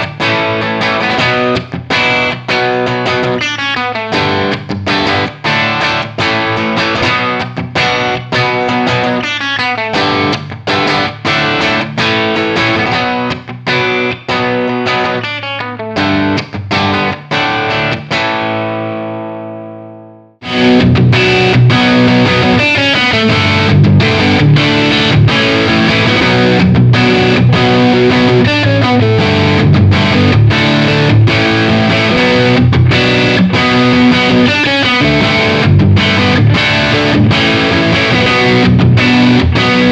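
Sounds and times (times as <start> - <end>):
distorted electric guitar riff: 0.0 - 39.9.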